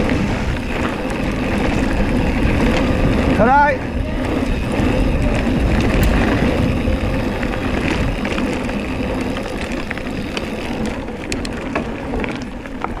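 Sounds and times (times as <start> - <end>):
bike clicks and rattles: 0.0 - 13.0
tyres rumbling over dirt: 0.0 - 13.0
wind buffeting microphone: 0.0 - 13.0.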